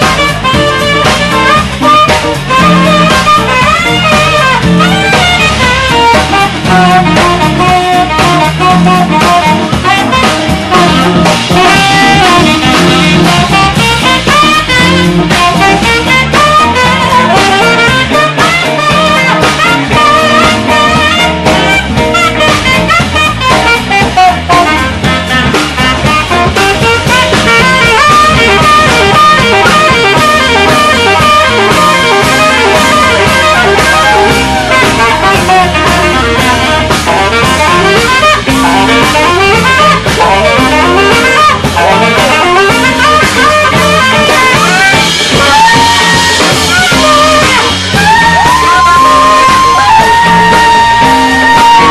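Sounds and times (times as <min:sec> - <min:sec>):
bass guitar: 0:00.0 - 0:51.9
drum kit beat: 0:00.0 - 0:51.9
electric guitar: 0:00.0 - 0:51.9
saxophone lead lines: 0:00.0 - 0:51.9.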